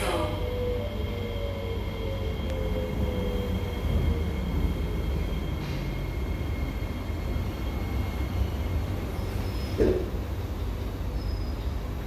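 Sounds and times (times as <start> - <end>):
faint high whines: 0.0 - 12.0
train carriage low rumble: 0.0 - 12.0.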